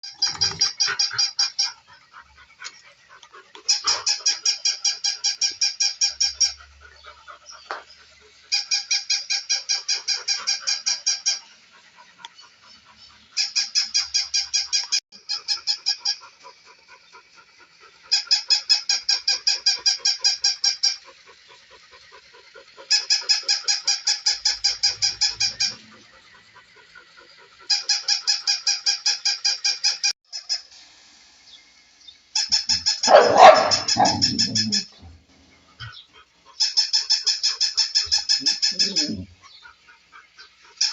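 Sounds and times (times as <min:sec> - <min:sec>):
toy dog electronic yapping: 0:00.0 - 0:30.7, 0:32.3 - 0:35.1, 0:35.8 - 0:40.9.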